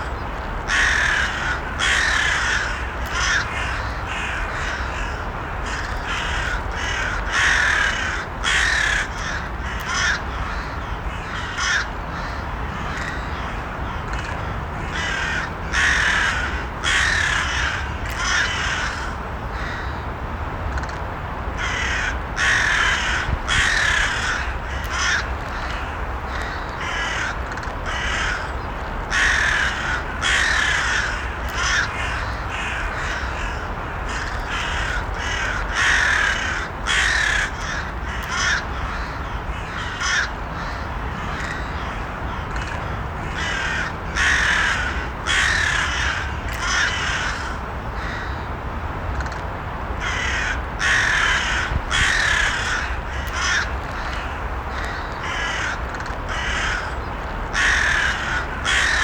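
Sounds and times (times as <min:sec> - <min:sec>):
low background noise: 0:00.0 - 0:59.0
crows cawing: 0:00.7 - 0:20.0, 0:21.6 - 0:48.6, 0:50.0 - 0:59.0.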